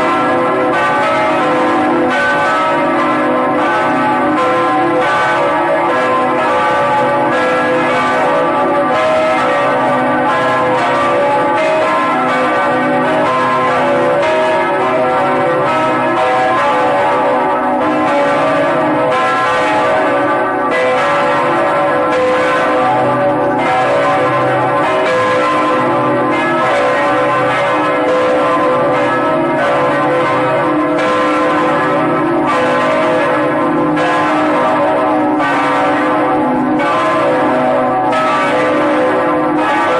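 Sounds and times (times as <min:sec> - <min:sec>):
large bells pealing: 0:00.0 - 0:39.9.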